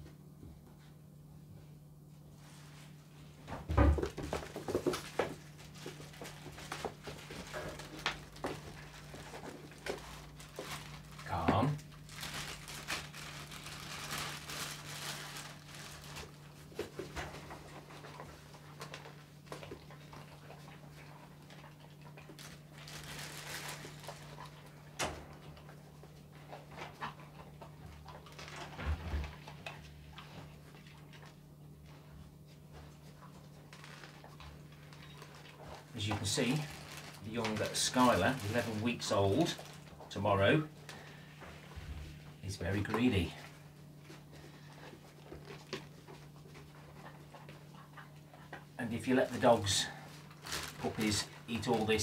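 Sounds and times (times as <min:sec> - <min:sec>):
low steady hum: 0:00.0 - 0:52.0
puppy eating and snuffling: 0:00.0 - 0:52.0.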